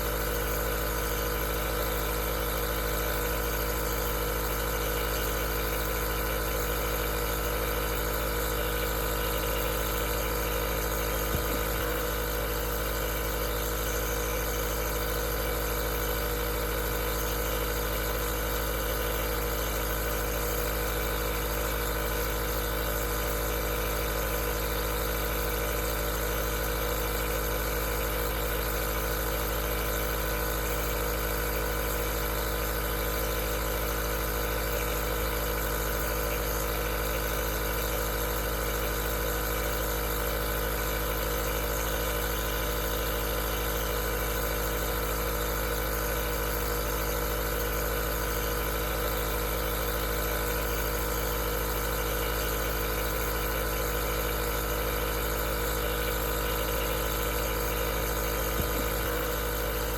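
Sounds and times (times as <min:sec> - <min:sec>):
compressor motor hum with air hiss: 0:00.0 - 0:59.9.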